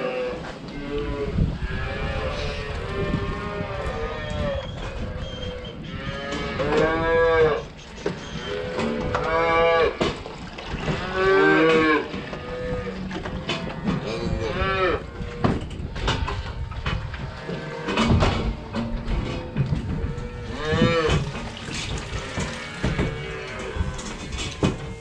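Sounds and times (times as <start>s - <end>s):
calves mooing: 0.0s - 10.1s, 10.8s - 15.6s, 19.1s - 25.0s.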